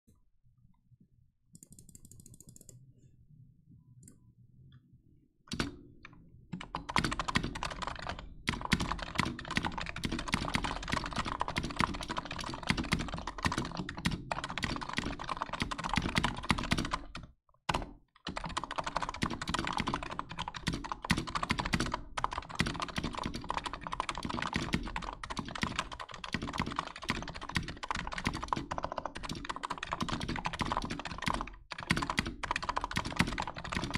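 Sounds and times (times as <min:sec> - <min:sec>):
soft keyboard typing: 0:01.5 - 0:03.1, 0:05.5 - 0:33.9.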